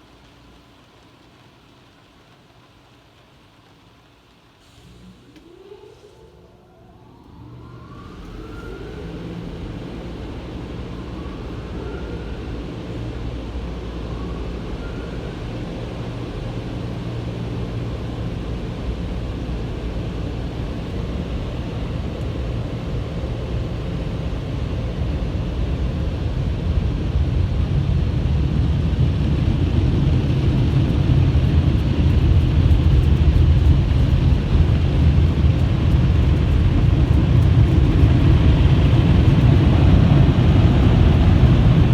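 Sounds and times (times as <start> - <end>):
car wash machinery rushing: 0.0 - 41.9.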